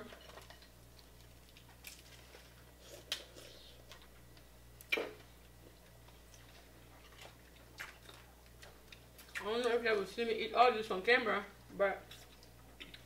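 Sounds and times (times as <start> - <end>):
quiet eating sounds: 0.0 - 13.0.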